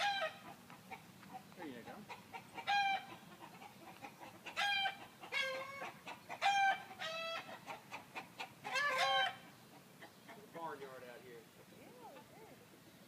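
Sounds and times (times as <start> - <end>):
chickens clucking: 0.0 - 12.7.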